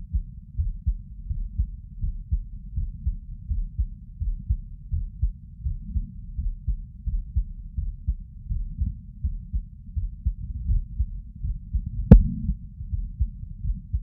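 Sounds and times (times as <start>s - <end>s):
heartbeat: 0.0s - 14.0s.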